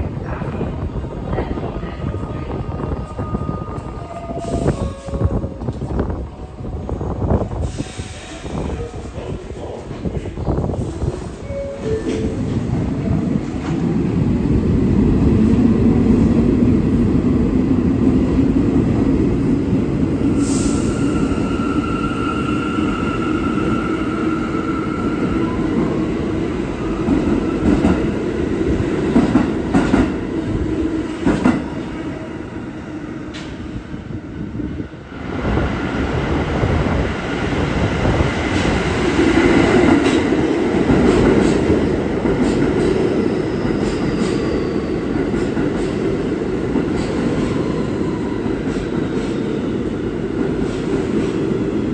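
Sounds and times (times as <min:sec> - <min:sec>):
subway train rumble: 0:00.0 - 0:51.9.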